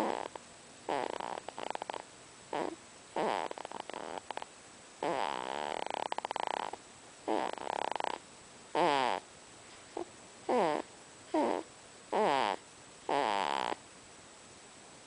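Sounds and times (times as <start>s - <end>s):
baby snoring: 0.0s - 9.2s, 10.0s - 13.8s.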